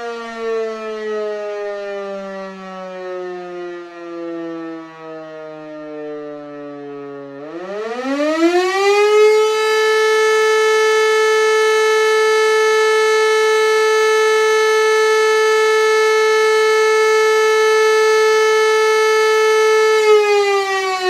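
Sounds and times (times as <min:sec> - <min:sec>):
electric siren wailing: 0:00.0 - 0:21.0.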